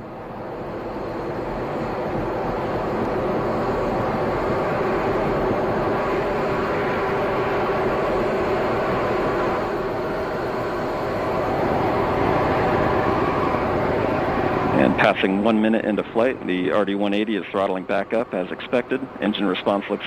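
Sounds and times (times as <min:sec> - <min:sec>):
rocket engine roar: 0:00.0 - 0:20.0.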